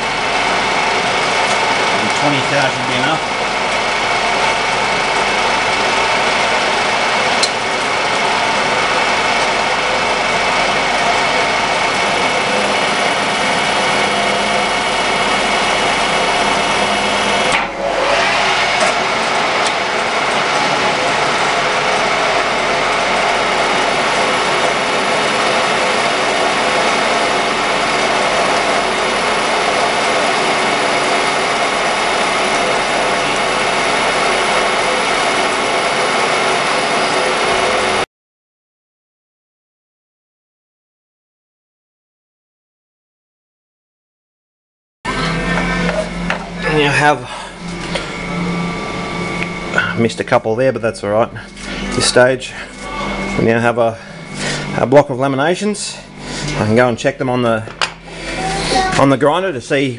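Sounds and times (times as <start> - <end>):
milling machine cutting steel: 0.0 - 38.0, 45.1 - 59.5.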